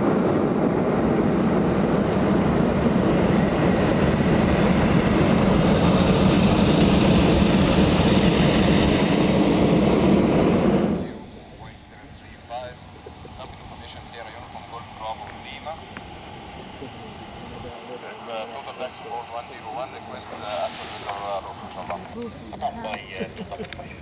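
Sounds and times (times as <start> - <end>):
propane burner roaring: 0.0 - 24.0.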